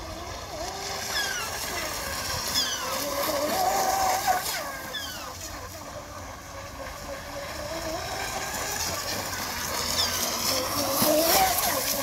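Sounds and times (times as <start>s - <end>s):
model boat motor whine: 0.0s - 12.0s.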